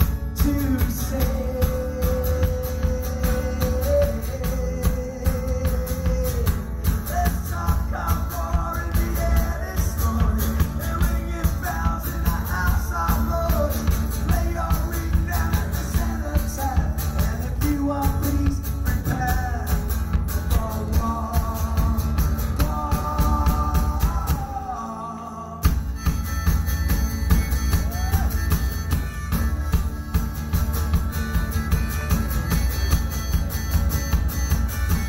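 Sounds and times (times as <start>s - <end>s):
live rock band playing: 0.0s - 24.6s, 25.6s - 35.0s.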